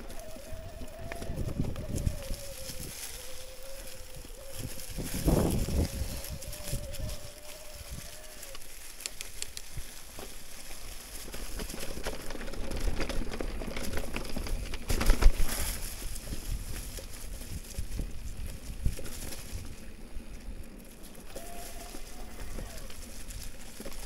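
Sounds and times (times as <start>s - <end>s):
bike tyres crackling over leaves: 0.0s - 24.0s.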